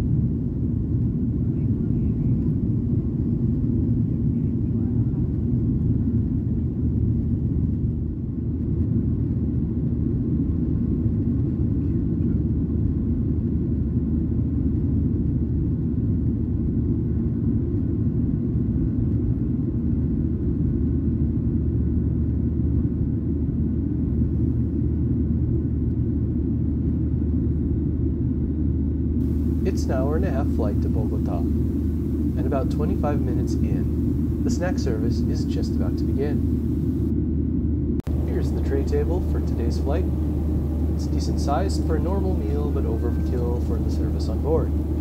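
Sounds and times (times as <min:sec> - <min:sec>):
airplane cabin engine rumble: 0:00.0 - 0:45.0.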